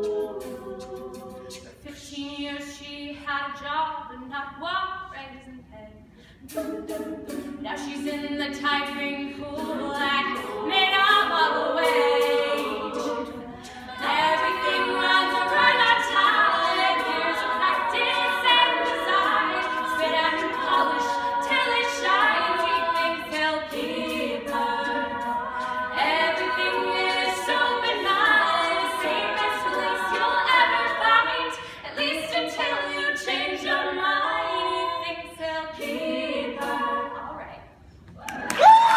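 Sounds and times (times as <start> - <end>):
a cappella group singing: 0.0 - 4.6, 5.7 - 37.9.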